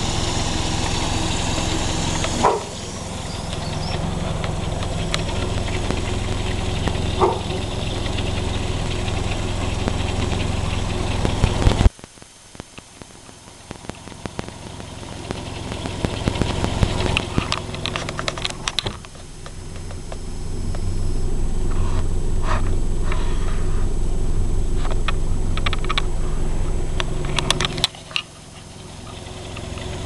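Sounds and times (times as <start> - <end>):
engine clicks and rattles: 0.0 - 12.0, 12.7 - 30.0
car engine running: 0.0 - 30.0.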